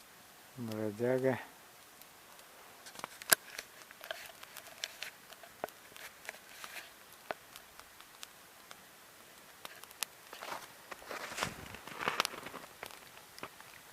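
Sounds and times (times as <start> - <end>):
wood fire crackling: 0.0 - 13.9.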